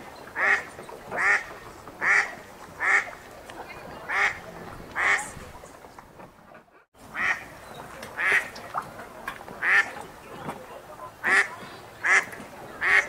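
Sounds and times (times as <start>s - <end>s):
ducks quacking: 0.3s - 5.7s, 6.6s - 8.8s, 9.6s - 13.0s.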